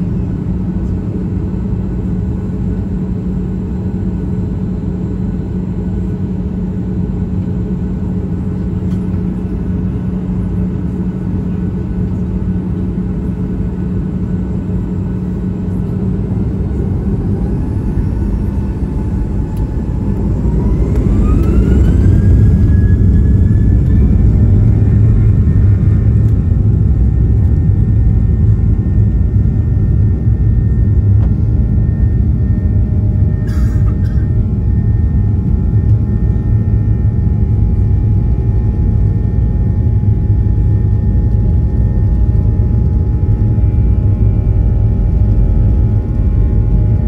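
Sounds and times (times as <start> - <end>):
airplane cabin rumble: 0.0 - 47.0
jet engines spooling up whine: 0.0 - 47.0.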